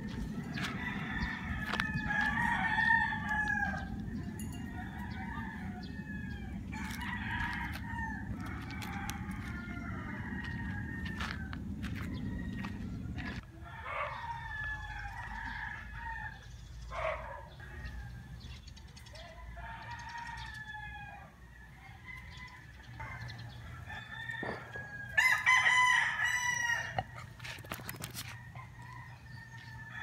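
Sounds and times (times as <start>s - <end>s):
roosters crowing: 0.0s - 30.0s.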